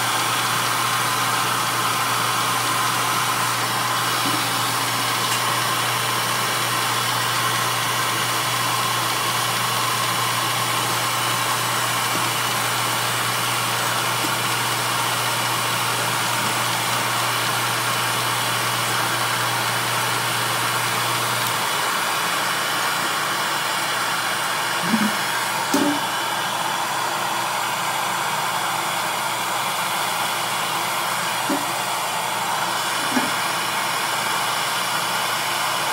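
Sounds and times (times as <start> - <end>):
shop machinery running: 0.0 - 35.9.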